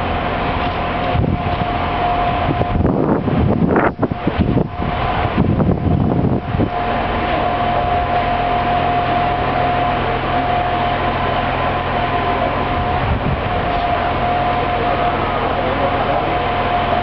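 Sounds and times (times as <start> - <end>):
engine hum: 0.0 - 17.0
high whine: 0.0 - 17.0.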